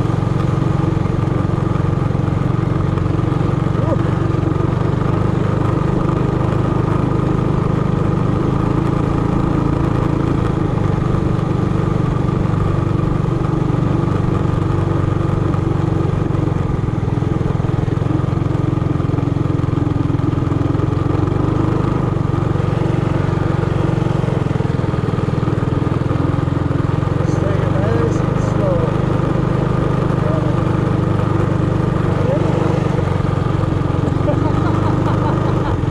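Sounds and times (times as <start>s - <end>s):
minibike engine running: 0.0s - 35.9s.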